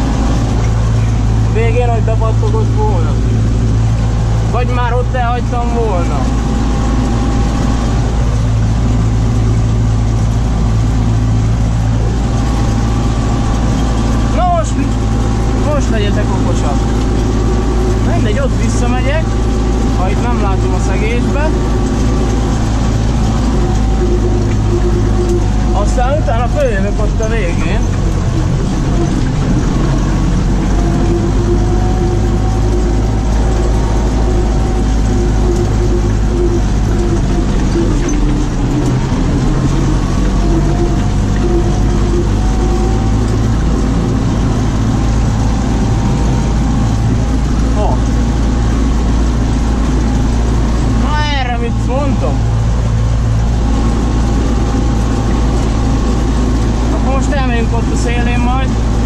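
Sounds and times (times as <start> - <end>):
shredder whine: 0.0 - 59.0
tractor engine under load: 0.0 - 59.0.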